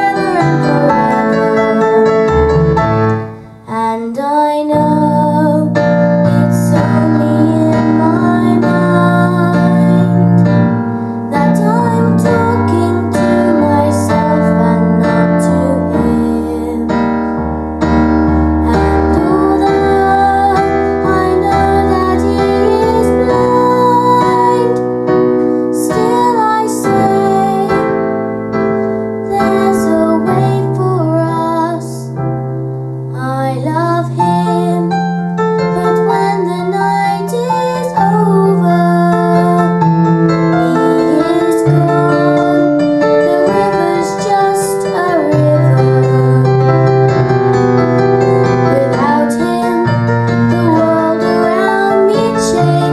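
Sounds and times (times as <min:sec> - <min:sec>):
girl singing: 0:00.0 - 0:02.4, 0:03.4 - 0:10.7, 0:11.3 - 0:17.1, 0:18.6 - 0:25.0, 0:25.7 - 0:28.1, 0:29.2 - 0:32.2, 0:33.1 - 0:46.8, 0:48.2 - 0:52.9
piano accompaniment: 0:00.0 - 0:52.9.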